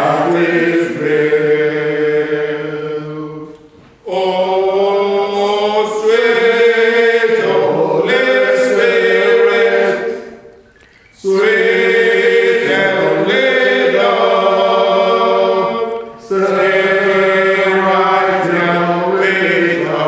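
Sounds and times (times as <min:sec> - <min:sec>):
group singing unaccompanied: 0:00.0 - 0:20.0.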